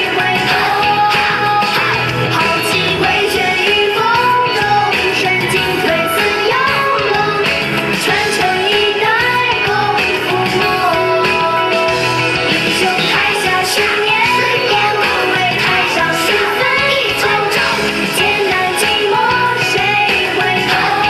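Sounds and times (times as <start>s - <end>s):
loud dance music with steady beat: 0.0s - 21.0s.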